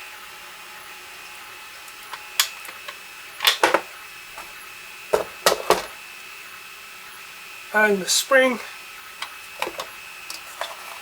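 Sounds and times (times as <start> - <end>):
faint high hum: 1.0 - 10.4.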